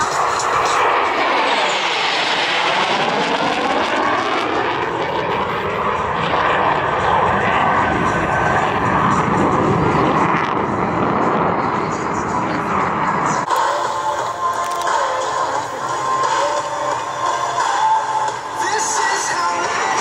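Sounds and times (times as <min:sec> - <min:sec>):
jet roaring past: 0:00.0 - 0:20.0.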